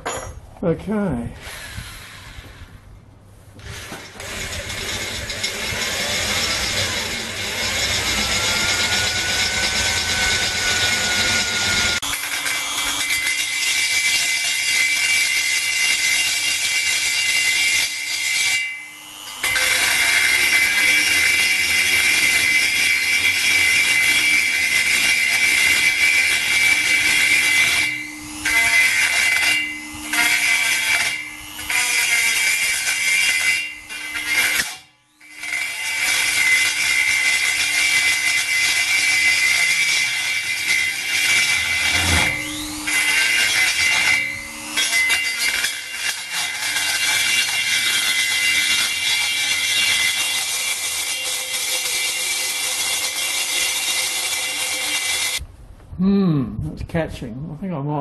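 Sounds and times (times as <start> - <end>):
rotary grinder grinding steel: 3.6 - 55.4.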